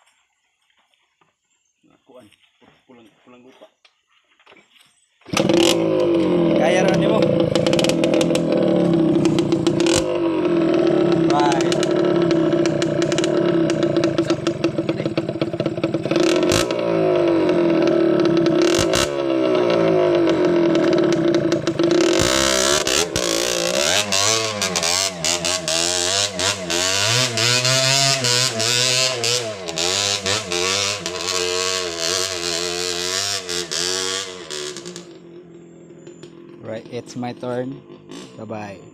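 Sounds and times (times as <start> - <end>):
dirt bike engine idling: 5.3 - 38.9
dirt bike revving: 5.3 - 38.9.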